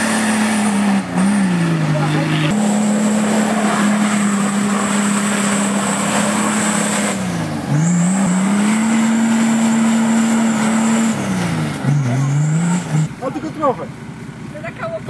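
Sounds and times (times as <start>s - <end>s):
turbo engine at high revs: 0.0s - 13.9s.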